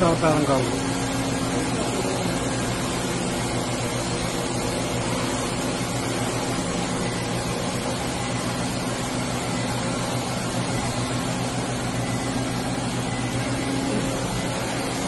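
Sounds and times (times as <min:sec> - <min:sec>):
low steady machine tones: 0:00.0 - 0:15.0
machining center mechanical hum: 0:00.0 - 0:15.0.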